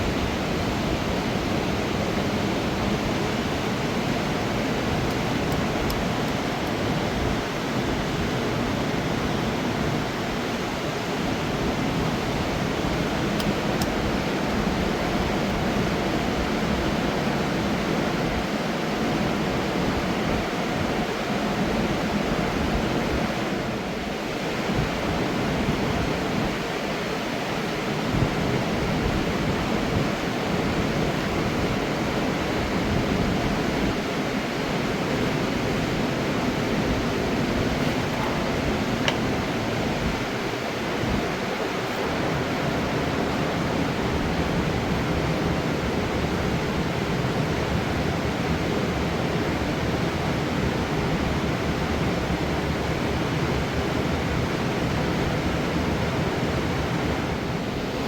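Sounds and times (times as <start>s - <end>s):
mountain river rushing: 0.0s - 58.0s.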